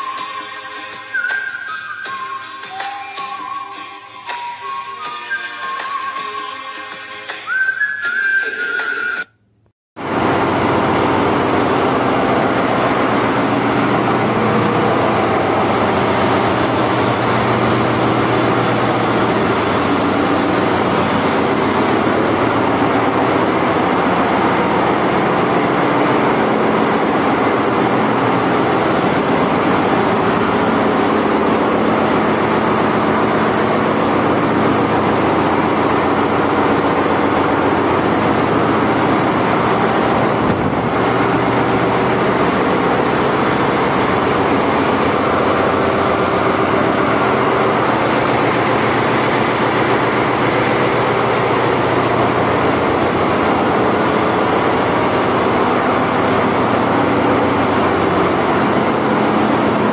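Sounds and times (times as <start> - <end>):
engine-room machinery running: 10.0 - 59.9.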